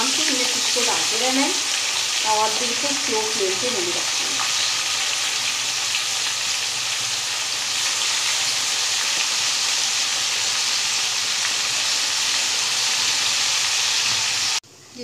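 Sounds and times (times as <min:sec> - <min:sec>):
fish deep-frying sizzle: 0:00.0 - 0:14.6.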